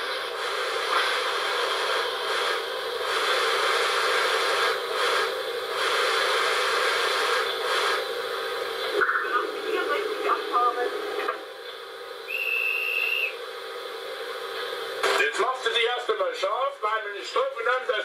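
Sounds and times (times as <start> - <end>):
steam hiss through loudspeaker: 0.0 - 18.0.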